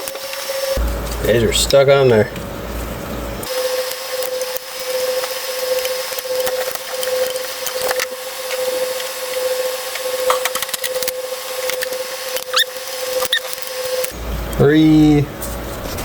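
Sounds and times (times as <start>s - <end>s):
steady high hum: 0.0s - 16.0s.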